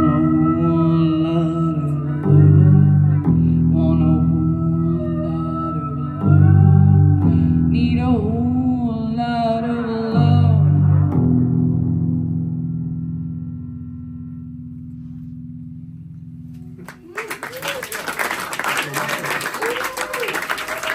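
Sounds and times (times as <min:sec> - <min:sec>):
deep bass notes: 0:00.0 - 0:16.8
guitar song: 0:00.0 - 0:17.0.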